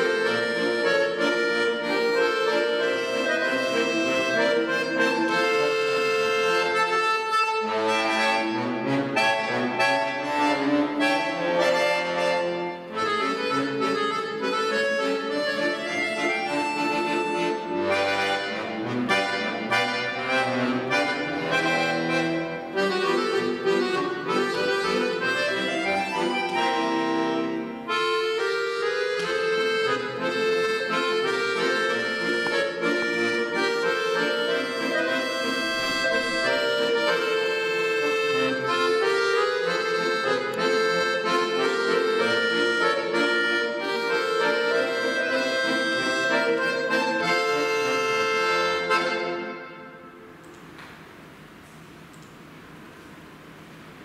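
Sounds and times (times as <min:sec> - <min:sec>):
accordion playing: 0:00.0 - 0:50.5.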